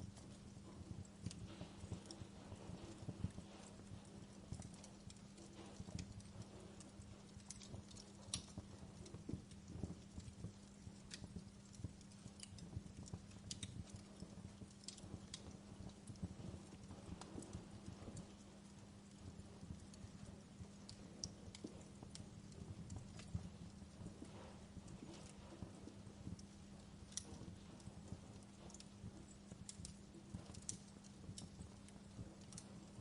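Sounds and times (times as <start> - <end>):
low steady hum: 0.0 - 33.0
wood fire crackling and popping: 0.0 - 33.0.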